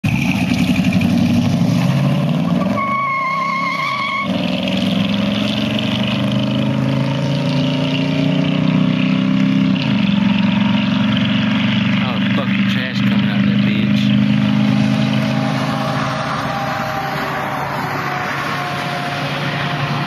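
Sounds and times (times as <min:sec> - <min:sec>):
pickup truck engine accelerating: 0:00.0 - 0:20.0.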